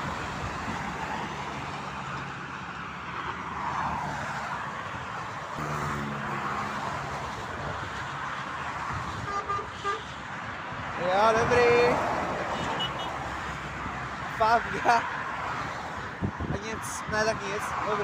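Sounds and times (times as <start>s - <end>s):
passing vehicle engines droning: 0.0s - 18.0s
tyre and road noise: 0.0s - 18.0s.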